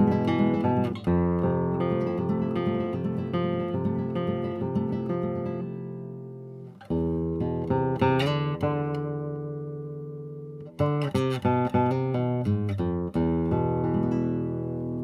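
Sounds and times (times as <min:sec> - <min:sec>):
classical guitar playing: 0:00.0 - 0:15.0.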